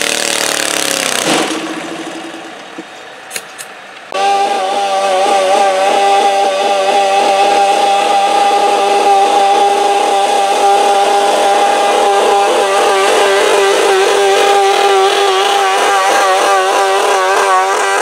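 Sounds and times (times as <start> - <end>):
tractor engine at high revs: 0.0 - 18.0.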